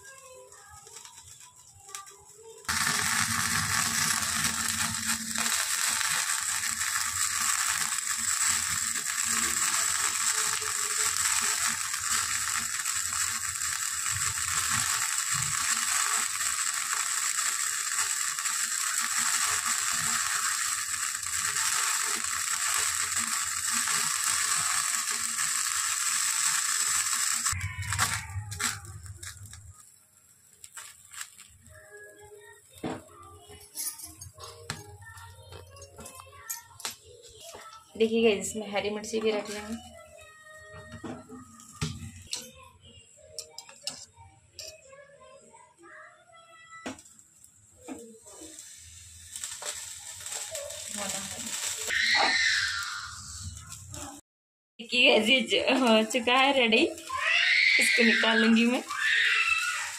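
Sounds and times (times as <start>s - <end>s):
gas burner flame hissing: 0.0s - 33.4s, 37.4s - 40.0s, 41.1s - 42.5s, 46.9s - 54.2s, 54.9s - 59.9s.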